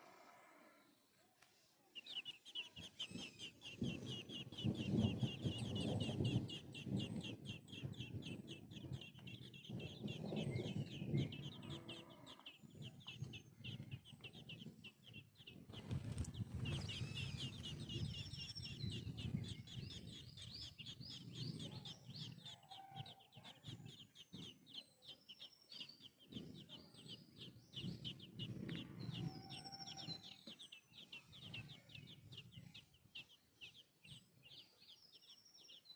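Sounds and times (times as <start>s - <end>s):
nestlings cheeping: 2.0s - 33.8s.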